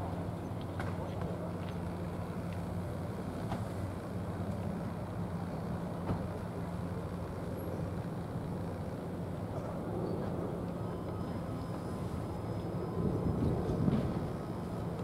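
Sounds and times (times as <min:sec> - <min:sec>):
drone of distant engines: 0:00.0 - 0:15.0.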